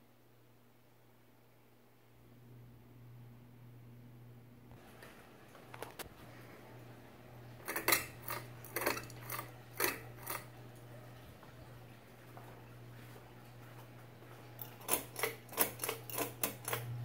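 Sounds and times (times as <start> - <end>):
fan motor hum: 0.0 - 17.0.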